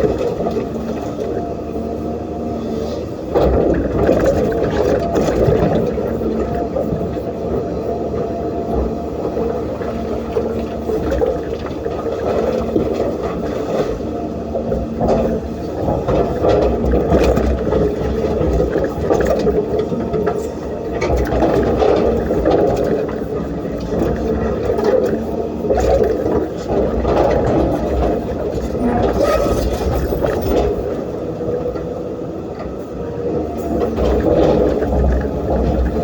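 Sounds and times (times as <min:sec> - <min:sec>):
excavator diesel engine: 0:00.0 - 0:36.0
hydraulics groaning whine: 0:00.0 - 0:36.0.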